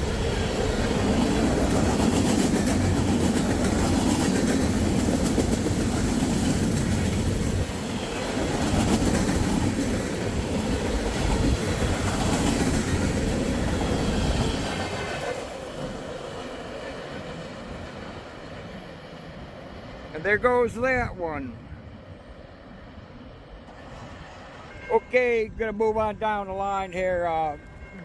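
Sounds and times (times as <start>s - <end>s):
freight train rumbling past: 0.0s - 28.0s
wheels clacking on rails: 0.0s - 28.0s.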